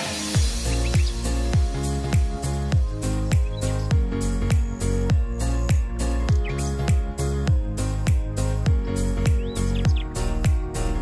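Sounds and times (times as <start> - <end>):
music with deep beat: 0.0 - 11.0.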